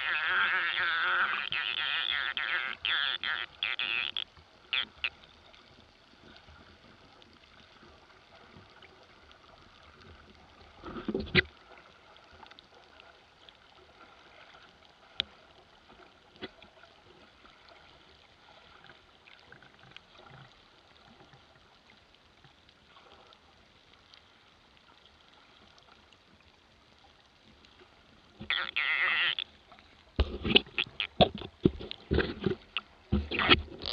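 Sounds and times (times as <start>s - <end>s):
faint underwater water noise: 0.0s - 33.9s.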